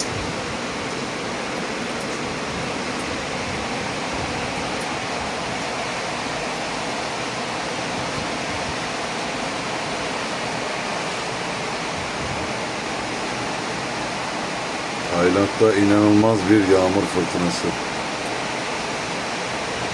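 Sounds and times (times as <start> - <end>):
torrential rain pouring: 0.0 - 19.9.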